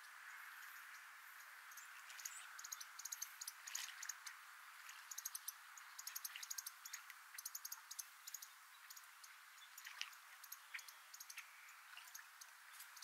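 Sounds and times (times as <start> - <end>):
faint steady hiss: 0.0 - 13.0
small birds chipping: 0.0 - 13.0.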